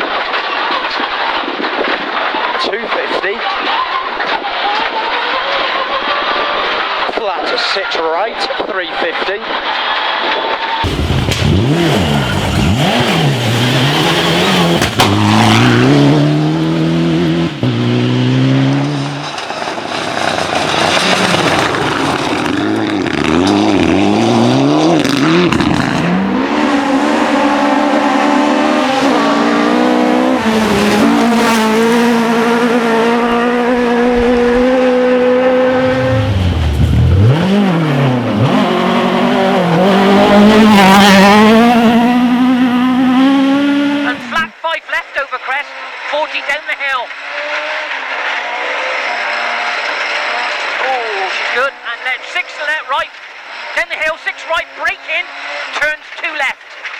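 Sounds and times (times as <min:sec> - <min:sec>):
rally car engine revving: 0:00.0 - 0:44.6, 0:45.5 - 0:56.9.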